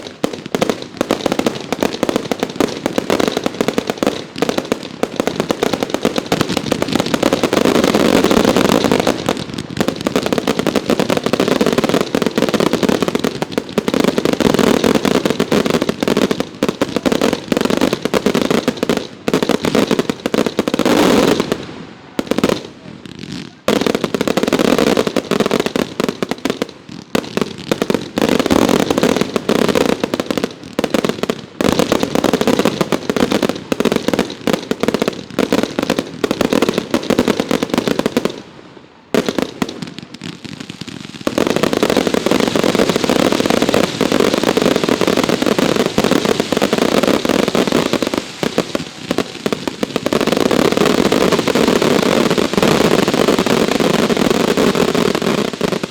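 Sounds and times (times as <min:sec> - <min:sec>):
fireworks bangs and crackle: 0:00.0 - 0:55.9.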